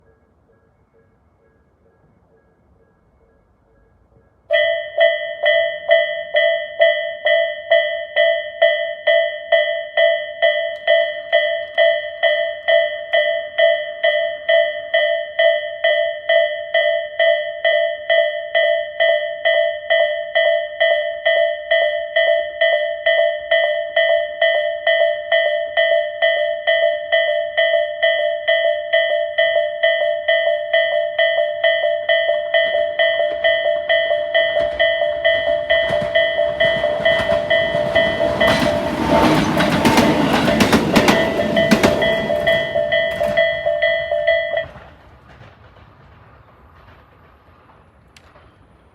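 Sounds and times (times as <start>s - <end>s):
level-crossing alarm dinging: 0.0s - 45.0s.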